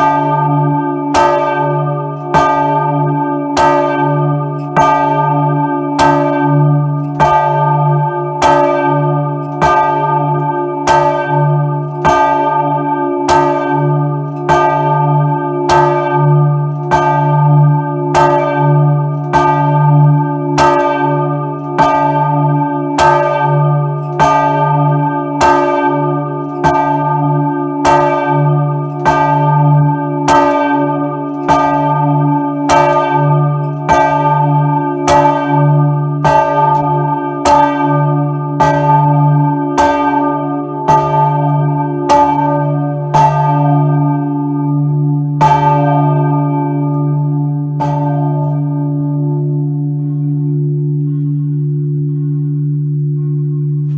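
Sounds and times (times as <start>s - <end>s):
large church bell ringing: 0.0s - 53.9s.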